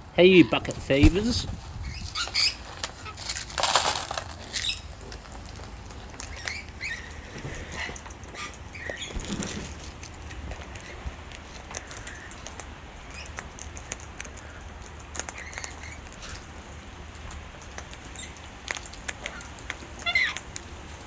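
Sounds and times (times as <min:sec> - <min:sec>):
parrots chirping softly: 0:00.0 - 0:03.6, 0:04.4 - 0:21.0.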